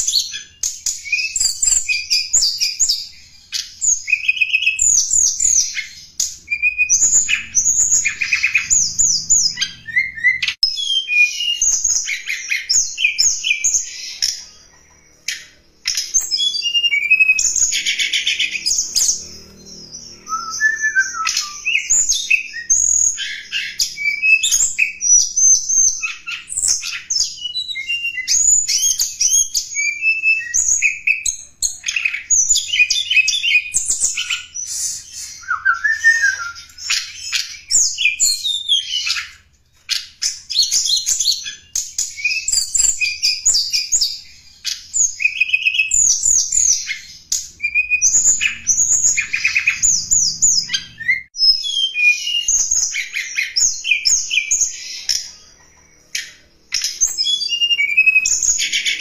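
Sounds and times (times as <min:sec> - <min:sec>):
bird song chirps and trills: 0:00.0 - 0:59.0.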